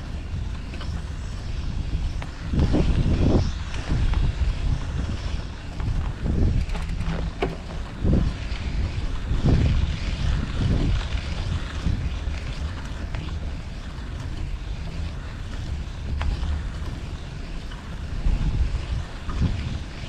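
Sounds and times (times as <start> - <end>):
street noise: 0.0 - 20.0
wind buffeting microphone: 0.0 - 20.0.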